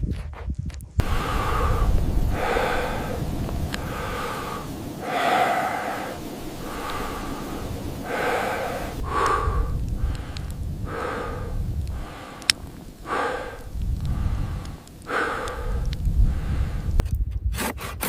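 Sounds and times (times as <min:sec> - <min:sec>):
heavy breathing: 0:01.0 - 0:17.0
low rumble: 0:01.0 - 0:17.1.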